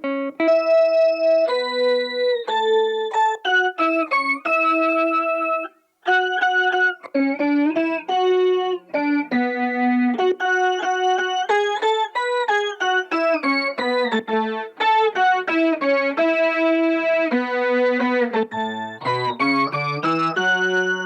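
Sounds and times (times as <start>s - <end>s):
synth guitar organ-like melody: 0.0s - 21.0s.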